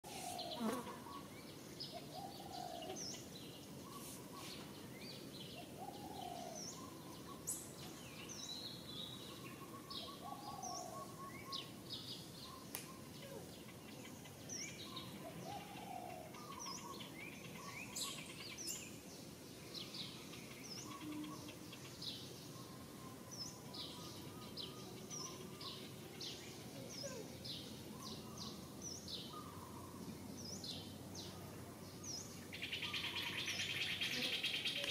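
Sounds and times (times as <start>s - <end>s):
low background noise: 0.0s - 34.9s
small birds chirping: 0.0s - 34.9s.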